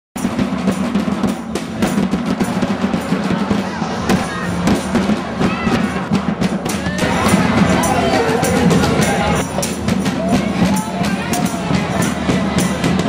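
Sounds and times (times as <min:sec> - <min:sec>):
crowd voices: 0:00.2 - 0:13.0
large drum beating: 0:00.2 - 0:13.0.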